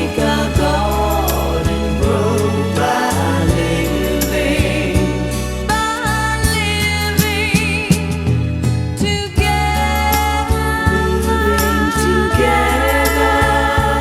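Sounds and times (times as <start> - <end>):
voices singing in harmony: 0.0 - 7.6, 9.4 - 14.0
band with bass and drums: 0.0 - 14.0.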